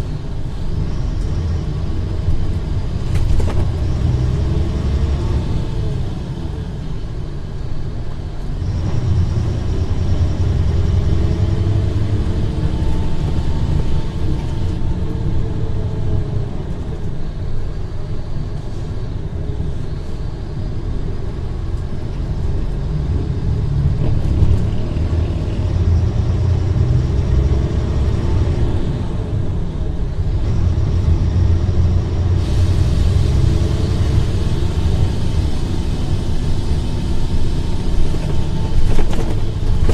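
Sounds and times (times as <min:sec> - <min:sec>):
bus diesel engine rumbling: 0:00.0 - 0:39.9.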